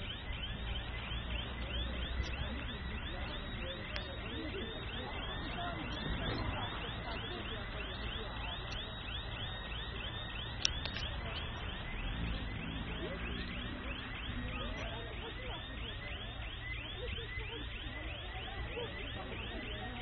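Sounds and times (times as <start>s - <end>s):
electronic siren warbling: 0.0s - 20.0s.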